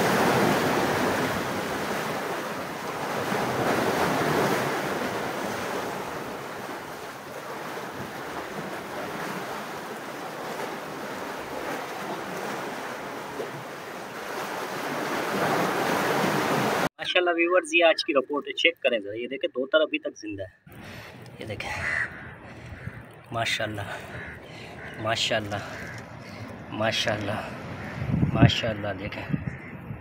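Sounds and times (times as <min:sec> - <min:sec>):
sea surf: 0:00.0 - 0:29.6
wind: 0:00.0 - 0:30.0.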